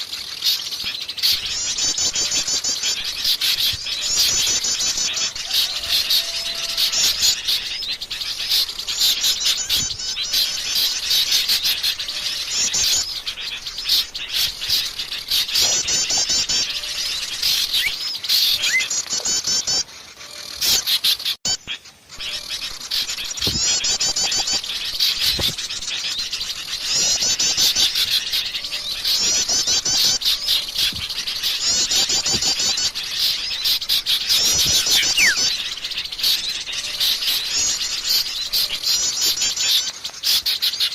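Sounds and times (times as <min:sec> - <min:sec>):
birds trilling: 0:00.0 - 0:40.9
chorus of bird chirps: 0:00.0 - 0:40.9.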